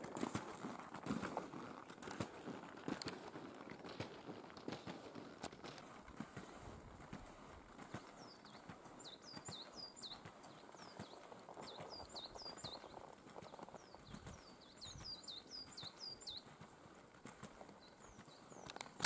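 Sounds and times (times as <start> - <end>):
footsteps in snow: 0.0 - 19.0.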